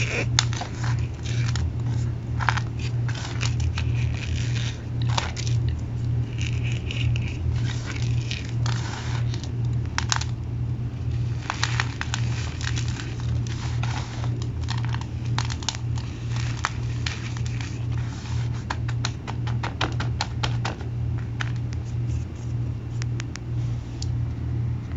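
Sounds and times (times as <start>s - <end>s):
cornstarch crunching by hand: 0.0s - 23.4s
steady low hum: 0.0s - 24.9s.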